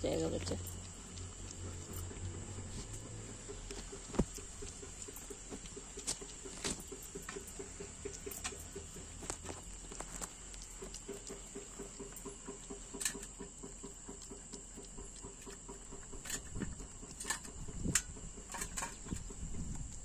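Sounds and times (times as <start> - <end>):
puppy suckling: 0.0 - 20.0
smacking clicks: 0.3 - 20.0.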